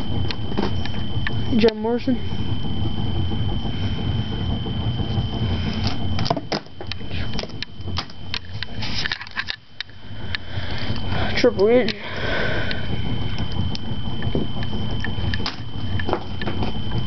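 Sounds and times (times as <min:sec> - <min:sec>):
low rumble: 0:00.0 - 0:17.0
thin high whine: 0:00.0 - 0:17.0.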